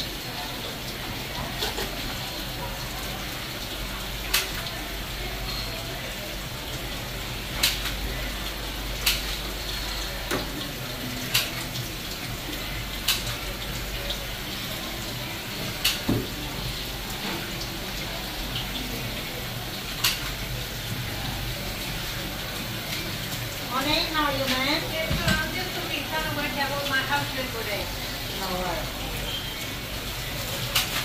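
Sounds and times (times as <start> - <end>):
tap water running into sink: 0.0 - 31.0.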